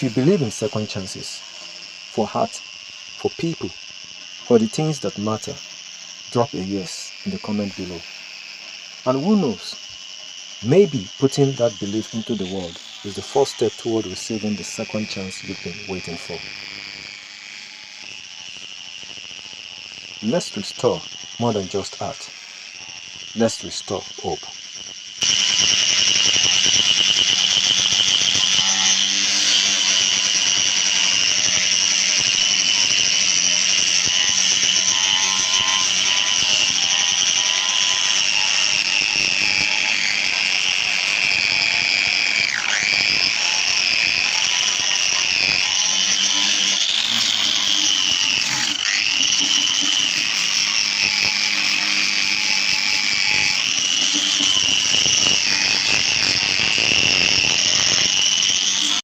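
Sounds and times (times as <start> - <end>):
power tool high-pitched whine: 0.0 - 59.0.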